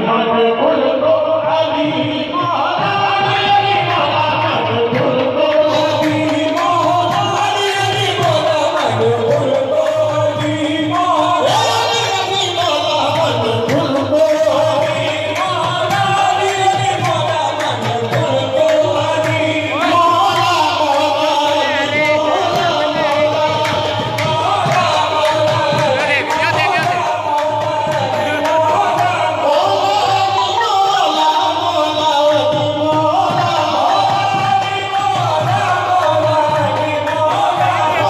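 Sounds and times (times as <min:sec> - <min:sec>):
harmonium: 0:00.0 - 0:38.0
men singing: 0:00.0 - 0:38.0
rhythmic hand-clapping: 0:02.7 - 0:38.0.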